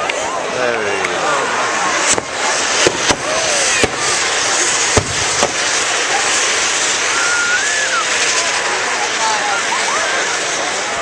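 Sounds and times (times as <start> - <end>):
steady hiss: 0.5 - 11.0
fireworks bangs: 0.8 - 11.0.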